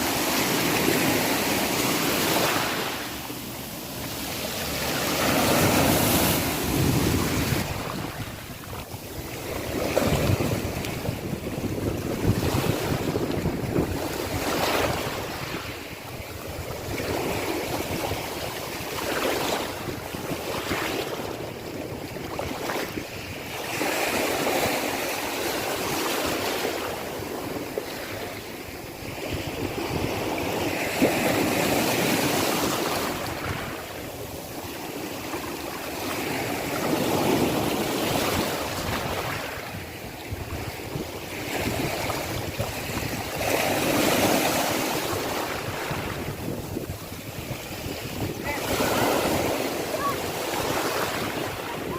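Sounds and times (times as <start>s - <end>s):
sea waves breaking: 0.0s - 51.9s.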